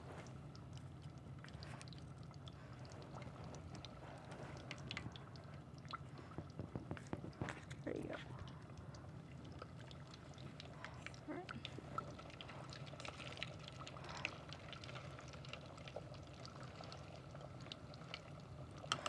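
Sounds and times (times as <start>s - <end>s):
low fryer hum: 0.0s - 19.0s.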